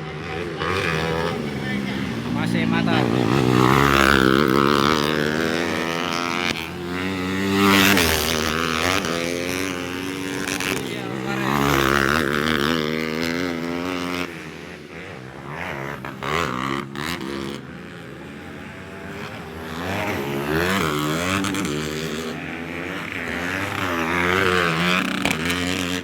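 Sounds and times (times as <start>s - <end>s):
motocross bikes racing: 0.0s - 26.0s.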